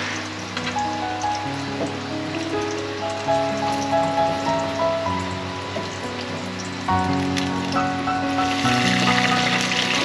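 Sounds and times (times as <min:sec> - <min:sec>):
background music: 0:00.0 - 0:10.0
spring rolls sizzling in oil: 0:00.0 - 0:10.0.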